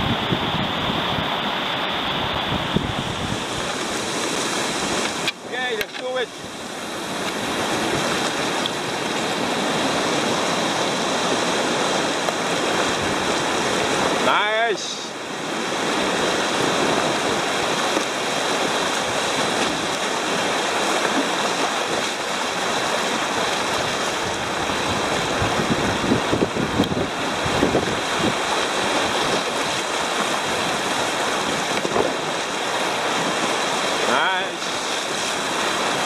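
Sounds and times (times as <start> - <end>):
wind buffeting microphone: 0.0 - 14.2, 15.4 - 33.5
paddle strokes in water: 0.0 - 36.0
whitewater rushing and splashing: 0.0 - 36.0.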